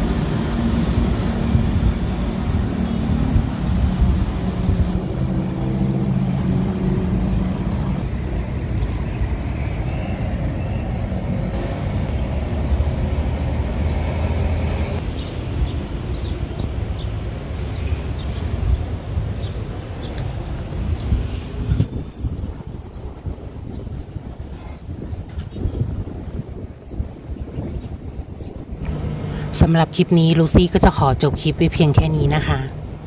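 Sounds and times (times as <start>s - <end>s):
low engine hum: 0.0s - 16.1s, 17.2s - 30.9s
vehicles passing: 0.0s - 33.0s.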